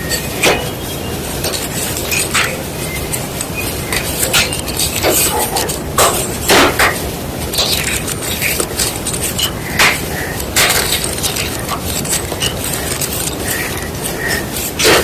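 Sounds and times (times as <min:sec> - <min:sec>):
crumbly crackle: 0:00.0 - 0:15.0.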